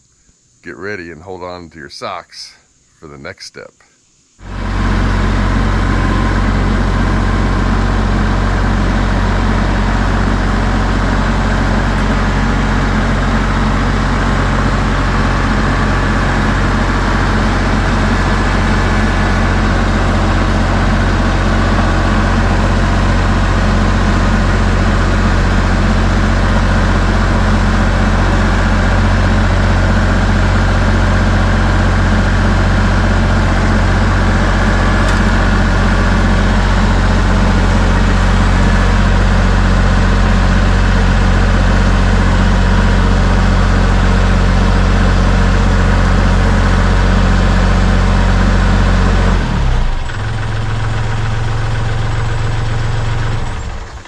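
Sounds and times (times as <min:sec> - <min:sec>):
tractor diesel engine running: 0:04.4 - 0:54.0.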